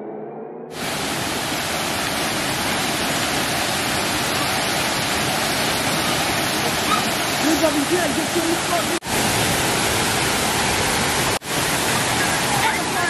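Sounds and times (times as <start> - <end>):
waterfall rushing: 0.7 - 13.0.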